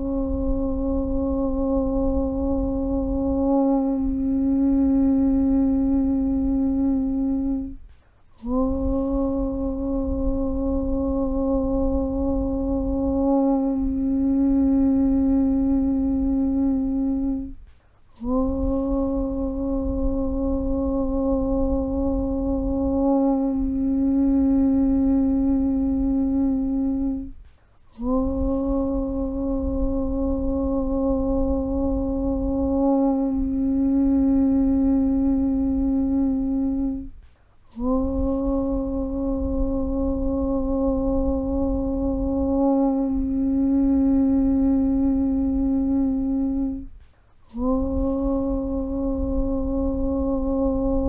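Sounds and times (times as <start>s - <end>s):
person chanting om: 0.0s - 51.0s.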